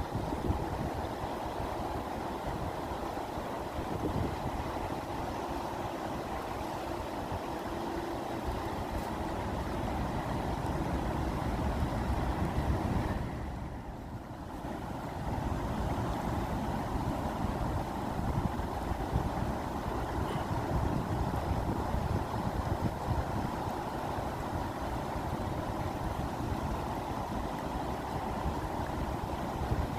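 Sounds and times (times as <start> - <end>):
flowing water rushing: 0.0 - 29.9.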